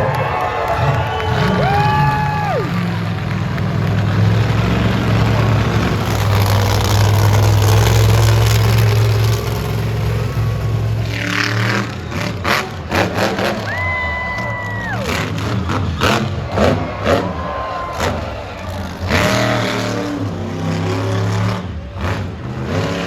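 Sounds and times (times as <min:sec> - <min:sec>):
monster truck engine running: 0:00.0 - 0:23.0.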